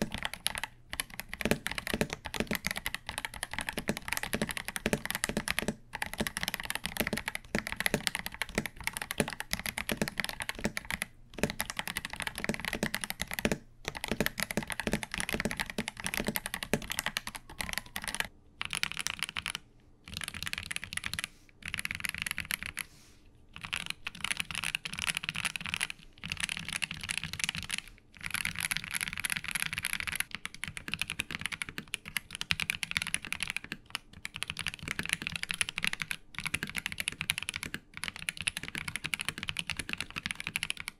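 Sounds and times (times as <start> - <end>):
fast typing on mechanical keyboard: 0.0 - 22.9, 23.6 - 40.9.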